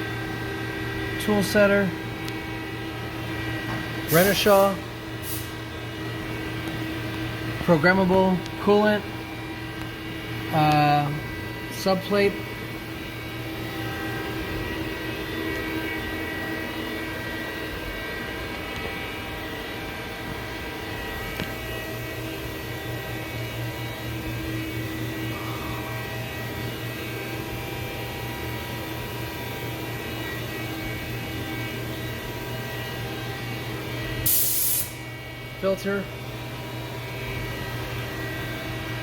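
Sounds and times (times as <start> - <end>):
steady machine tones: 0.0 - 34.3
machining center humming: 0.0 - 39.0.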